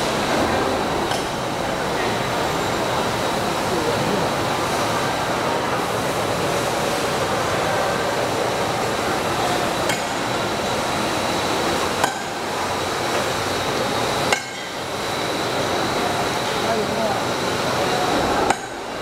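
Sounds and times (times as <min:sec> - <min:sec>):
printing press running: 0:00.0 - 0:19.0.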